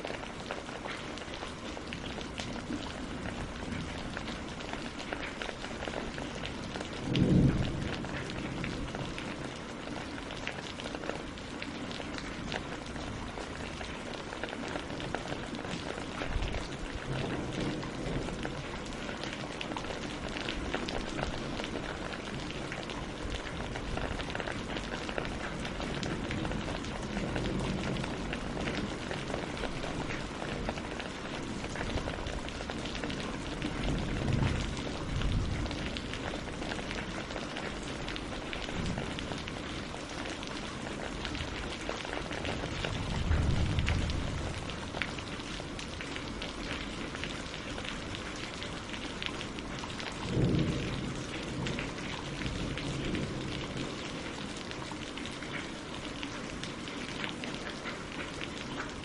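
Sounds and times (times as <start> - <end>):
rain on leaves and water: 0.0 - 59.0.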